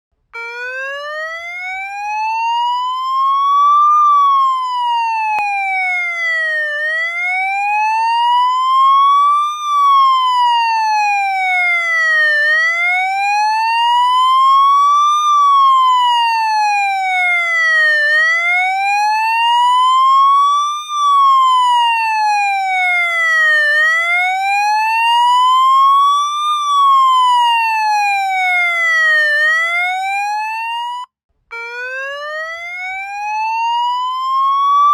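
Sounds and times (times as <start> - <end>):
police siren slow wail: 0.2 - 34.9.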